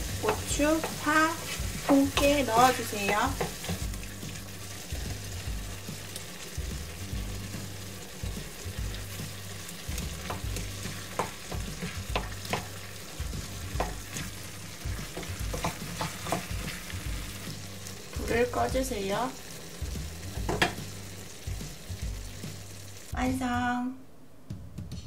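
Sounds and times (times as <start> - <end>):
sauce sizzling in a pan: 0.0 - 23.2.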